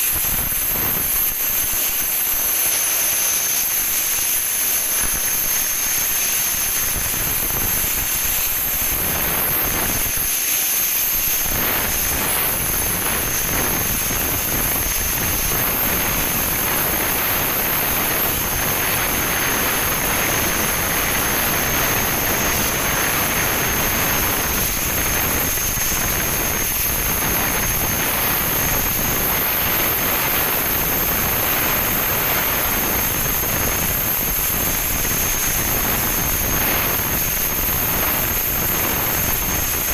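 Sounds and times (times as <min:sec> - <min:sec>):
loud machine hiss: 0:00.0 - 0:39.9.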